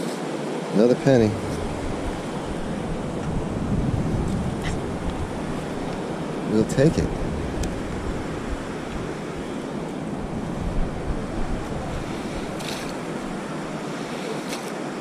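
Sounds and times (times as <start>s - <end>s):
ocean surf washing on beach: 0.0s - 15.0s
wind on microphone: 0.9s - 14.4s.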